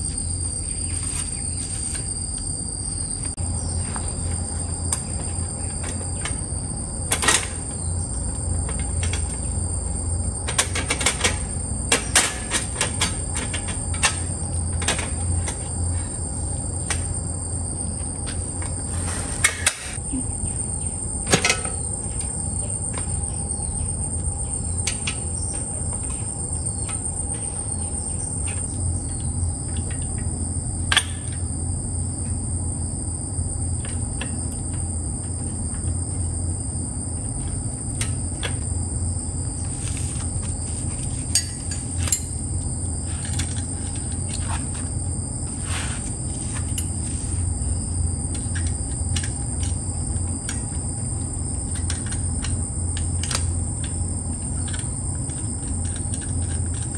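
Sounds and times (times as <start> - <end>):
insects droning: 0.0 - 56.9
low hum: 0.0 - 56.9.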